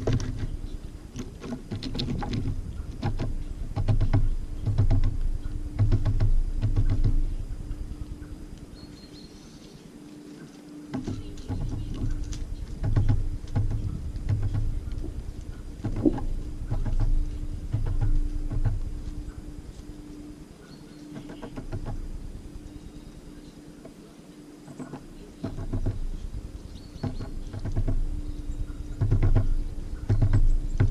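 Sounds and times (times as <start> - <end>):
birds pecking at a feeder: 0.0 - 30.9.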